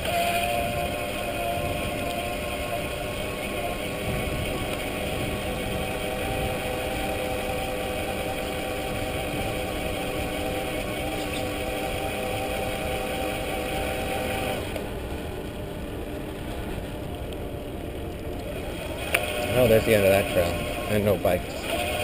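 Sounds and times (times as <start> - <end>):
electric bike motor whining: 0.0 - 22.0
tyres rumbling on trail: 0.0 - 22.0
wind: 0.0 - 22.0.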